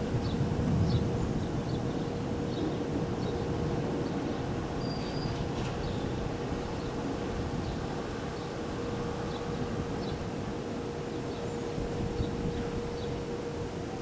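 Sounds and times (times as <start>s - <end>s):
storm winds with heavy rain: 0.0s - 14.0s.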